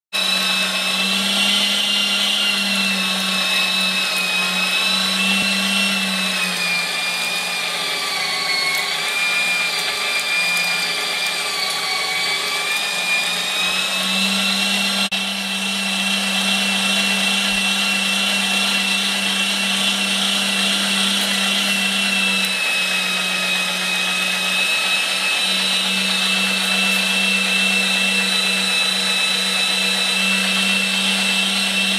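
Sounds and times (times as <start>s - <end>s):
meat grinder motor whining: 0.1s - 31.9s.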